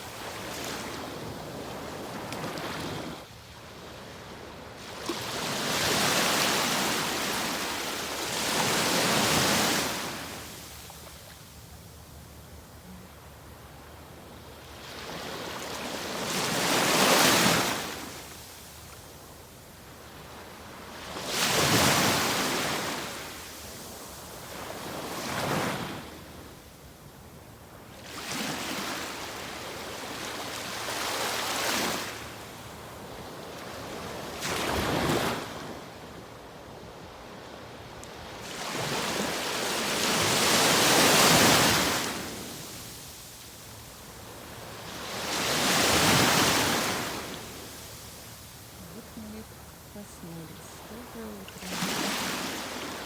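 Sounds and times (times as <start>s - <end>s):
ocean waves breaking on shore: 0.0s - 11.8s, 14.6s - 19.3s, 19.9s - 26.5s, 28.0s - 36.1s, 37.6s - 53.0s.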